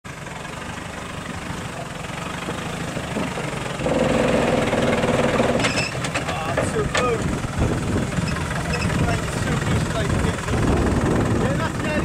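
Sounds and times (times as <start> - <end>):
engine running at low revs: 0.1 - 12.0.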